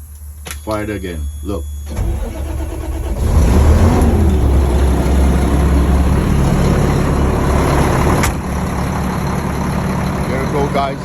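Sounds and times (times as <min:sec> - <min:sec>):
diesel engine idling: 0:01.9 - 0:11.0.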